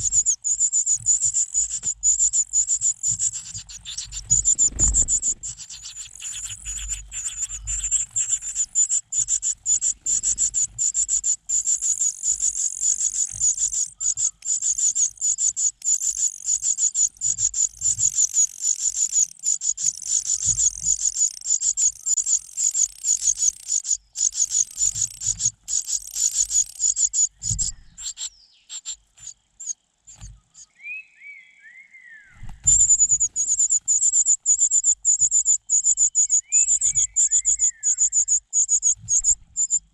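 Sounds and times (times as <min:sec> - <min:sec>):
nestlings begging calls: 0:00.0 - 0:30.7, 0:32.3 - 0:39.9.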